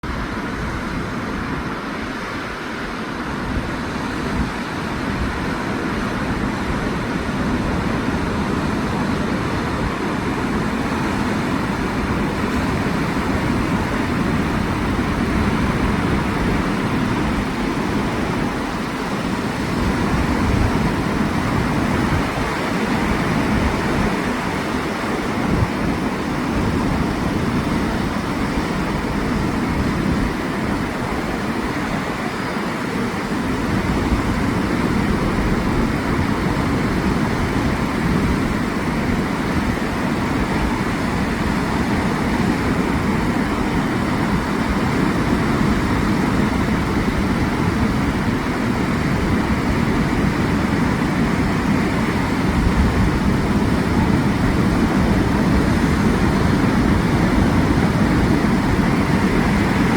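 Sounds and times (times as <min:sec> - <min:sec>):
ocean surf breaking: 0:00.0 - 0:59.9
wind rumbling on microphone: 0:00.0 - 0:59.9.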